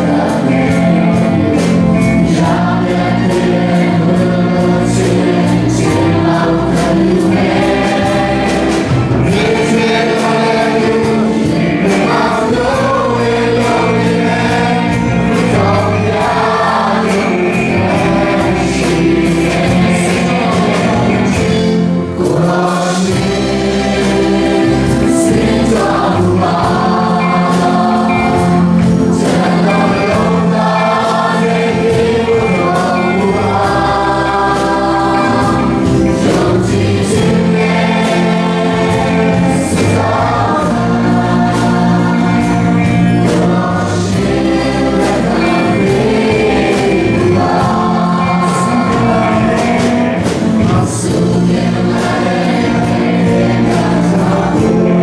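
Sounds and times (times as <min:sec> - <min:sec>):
choir singing into microphones: 0:00.0 - 0:55.0
live band with drums and guitars: 0:00.0 - 0:55.0.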